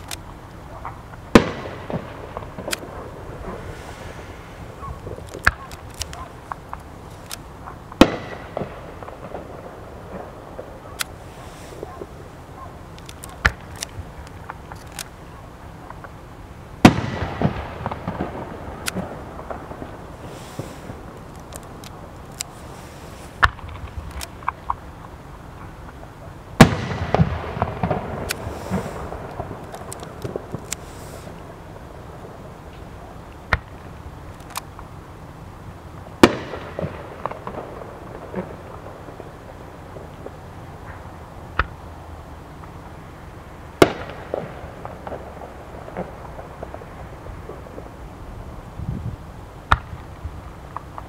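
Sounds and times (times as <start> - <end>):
fireworks bursting: 0.0 - 48.8
fireworks crackling: 0.0 - 51.0.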